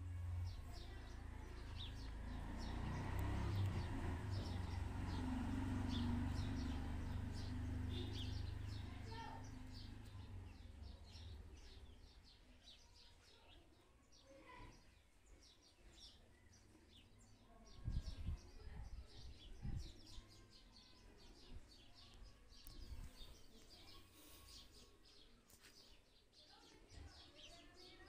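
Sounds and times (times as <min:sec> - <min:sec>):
small birds chirping rapidly: 0:00.0 - 0:28.0.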